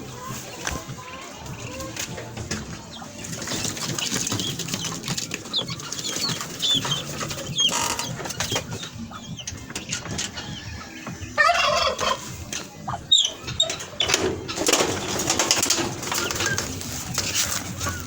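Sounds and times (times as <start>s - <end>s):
poultry chirping calls: 0.0s - 18.0s
clattering and scuffling: 0.2s - 11.2s, 12.1s - 18.0s.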